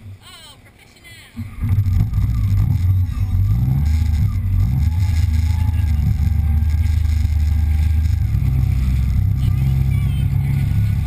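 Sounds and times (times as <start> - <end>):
watercraft engine droning: 0.0 - 11.0.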